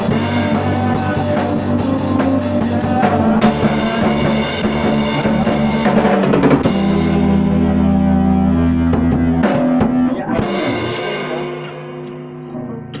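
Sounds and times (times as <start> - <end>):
band playing: 0.0 - 13.0
busy drumming: 0.0 - 13.0.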